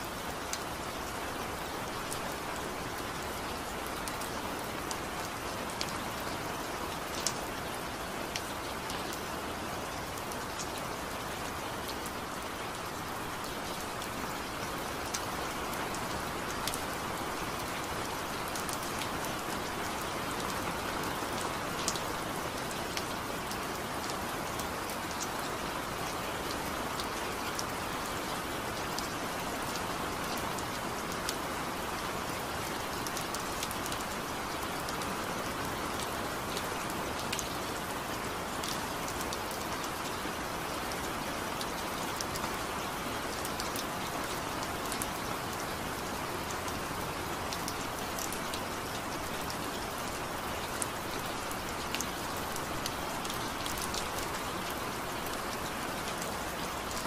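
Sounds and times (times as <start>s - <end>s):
steady rainfall hiss: 0.0s - 57.0s.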